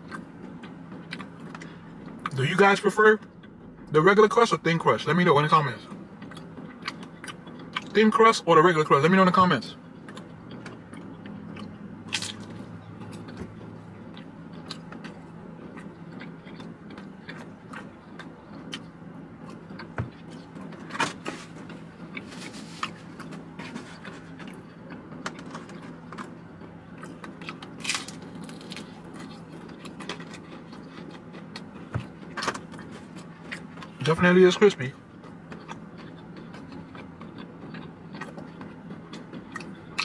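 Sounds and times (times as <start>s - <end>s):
person chewing crispy pizza: 0.0s - 3.6s, 6.1s - 8.2s, 9.0s - 40.0s
low hum: 0.0s - 40.0s.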